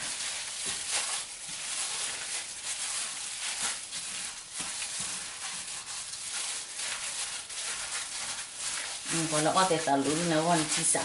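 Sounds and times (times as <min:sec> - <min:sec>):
gloved hand rustling food in a bowl: 0:00.0 - 0:11.0.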